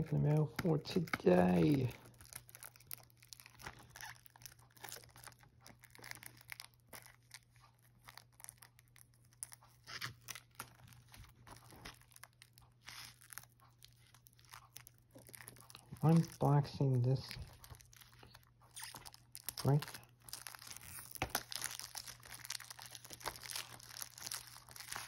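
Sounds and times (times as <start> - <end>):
shrink-wrap crinkling: 0.0 - 25.0.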